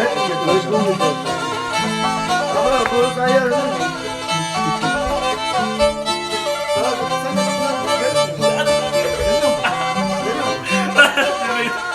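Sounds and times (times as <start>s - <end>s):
bowed string melody over drone: 0.0s - 11.9s.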